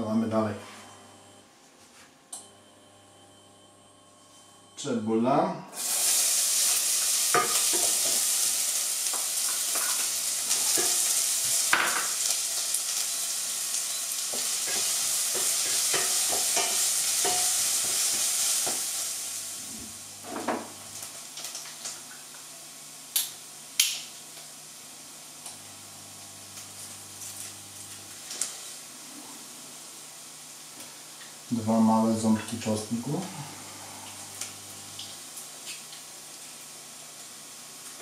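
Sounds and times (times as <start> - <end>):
onion sizzling in hot fat: 5.8 - 38.0.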